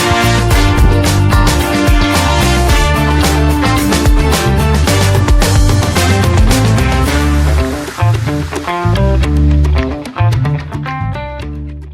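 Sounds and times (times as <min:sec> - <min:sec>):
background music with guitar and bass: 0:00.0 - 0:11.9.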